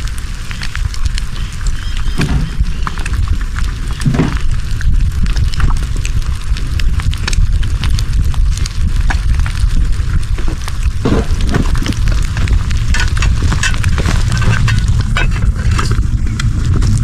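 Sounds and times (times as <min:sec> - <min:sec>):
fire crackling and popping: 0:00.0 - 0:17.0
wind rumble on microphone: 0:00.0 - 0:17.0.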